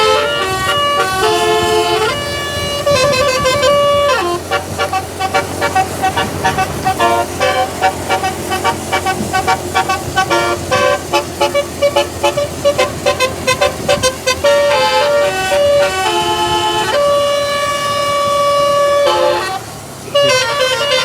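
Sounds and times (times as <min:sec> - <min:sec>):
musical air horn melody: 0:00.0 - 0:21.0.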